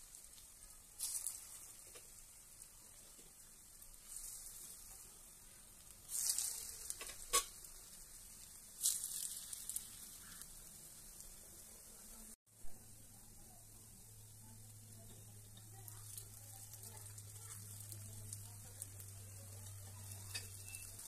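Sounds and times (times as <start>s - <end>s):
batter sizzling in hot oil: 0.0s - 21.0s.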